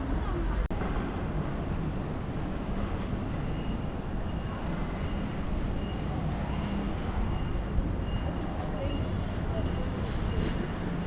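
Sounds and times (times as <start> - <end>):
traffic rumble: 0.0 - 11.0
faint high whine: 0.4 - 11.0.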